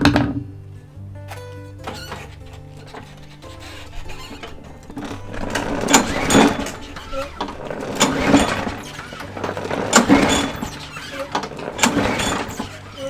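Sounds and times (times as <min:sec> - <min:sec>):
lawnmower recoil starter pulled: 0:00.0 - 0:13.0.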